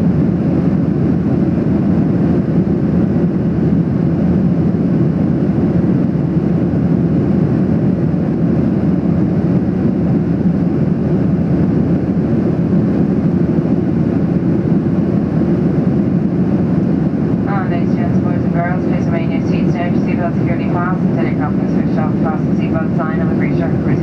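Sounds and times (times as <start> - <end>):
airplane cabin engine rush: 0.0 - 24.0.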